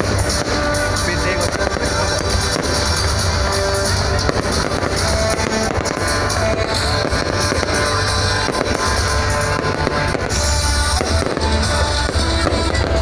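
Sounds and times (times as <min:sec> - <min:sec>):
fireworks bangs and crackling: 0:00.0 - 0:13.0
loud music with heavy bass: 0:00.0 - 0:13.0.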